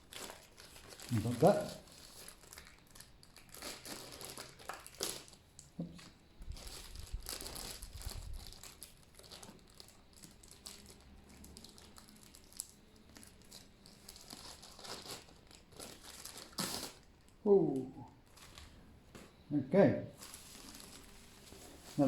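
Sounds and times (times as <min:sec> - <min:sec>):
packaging crinkling and rustling: 0:00.0 - 0:17.4, 0:18.2 - 0:19.3, 0:20.2 - 0:22.0.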